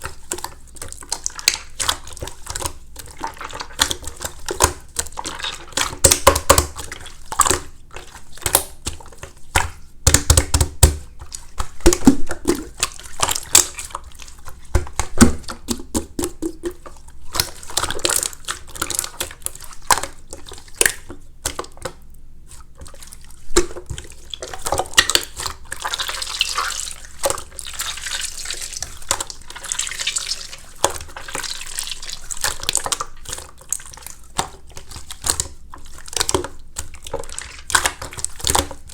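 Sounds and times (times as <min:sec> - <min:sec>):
hands squishing wet slime: 0:00.0 - 0:38.9.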